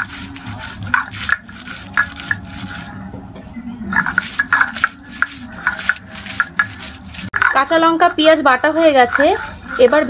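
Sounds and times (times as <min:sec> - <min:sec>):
stone roller grinding paste: 0:00.0 - 0:02.9, 0:03.9 - 0:10.0.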